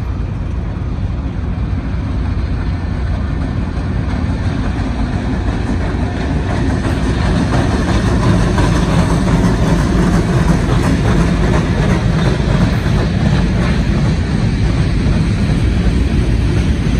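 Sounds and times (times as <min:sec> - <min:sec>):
diesel locomotive rumbling past: 0:00.0 - 0:16.9.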